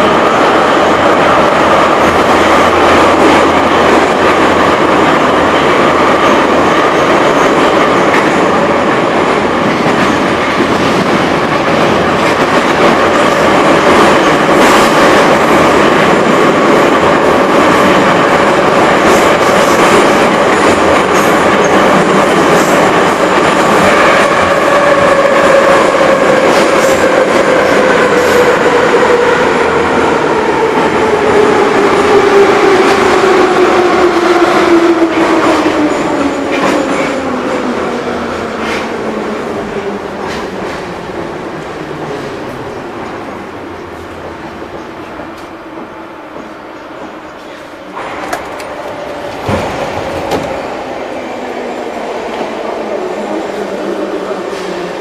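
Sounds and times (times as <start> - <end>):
metro train running in tunnel: 0.0 - 55.0.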